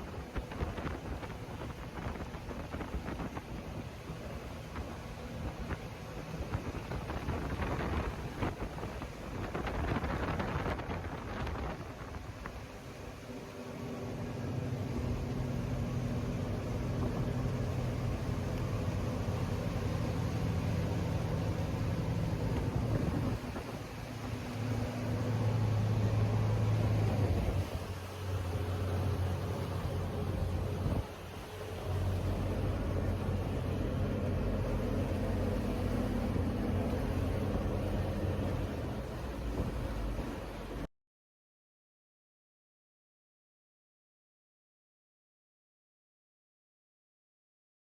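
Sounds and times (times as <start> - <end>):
boat engine running: 0.0 - 40.9
water noise: 0.0 - 40.9
wind: 0.0 - 40.9.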